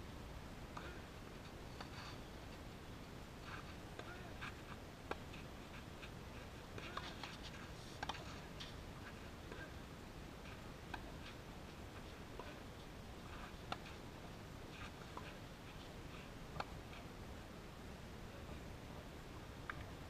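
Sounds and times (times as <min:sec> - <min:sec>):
low outdoor hiss: 0:00.0 - 0:20.0.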